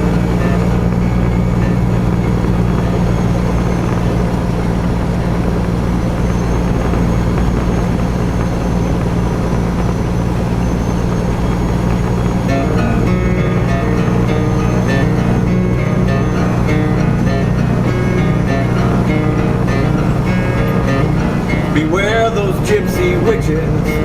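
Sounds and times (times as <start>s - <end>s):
truck diesel engine droning: 0.0s - 24.0s.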